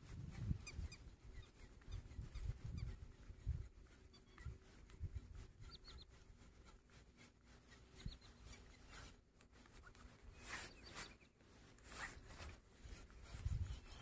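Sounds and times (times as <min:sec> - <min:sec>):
faint rustling and scraping: 0:00.0 - 0:14.0.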